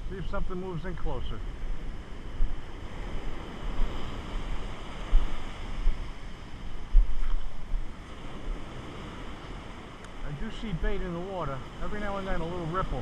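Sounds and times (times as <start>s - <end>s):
ocean surf on sandy beach: 0.0s - 13.0s
wind buffeting microphone: 0.0s - 13.0s.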